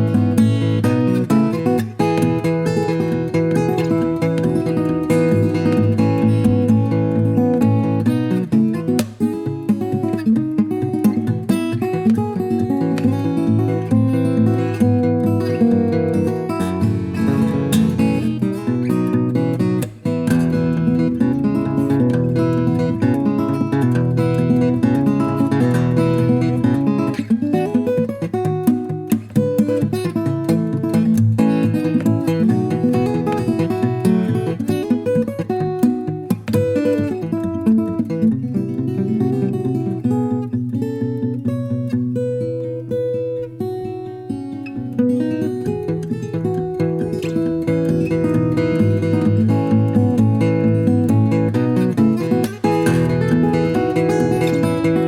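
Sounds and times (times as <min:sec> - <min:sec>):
fingerstyle acoustic guitar: 0:00.0 - 0:55.0.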